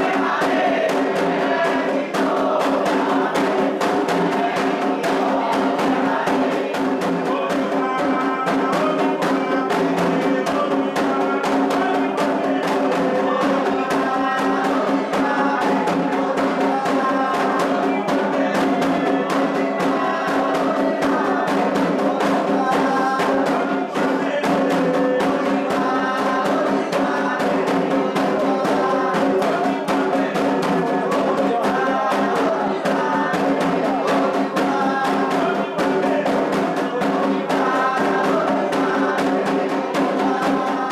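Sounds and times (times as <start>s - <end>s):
group singing a chant: 0.0s - 40.9s
hand drums fast rhythm: 0.0s - 40.9s.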